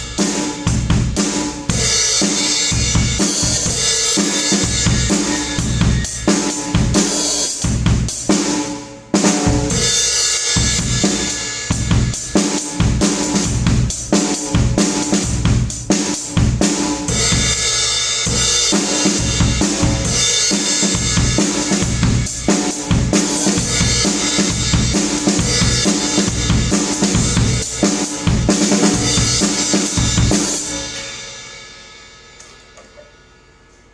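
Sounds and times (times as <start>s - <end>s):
drum kit beat: 0.0s - 33.2s.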